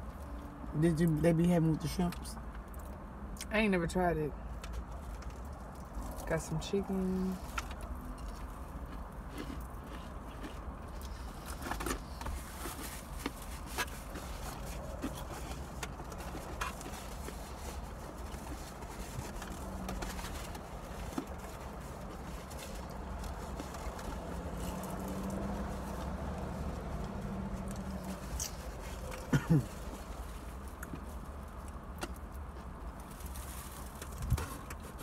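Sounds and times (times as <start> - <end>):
low hum inside a car: 0.0 - 35.0
soft clicks and rustles of eating: 2.1 - 3.5, 4.5 - 6.3, 7.4 - 35.0.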